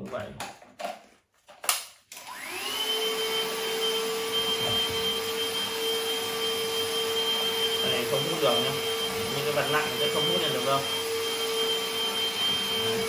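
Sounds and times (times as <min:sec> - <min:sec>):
handheld vacuum motor whine: 0:02.1 - 0:13.0.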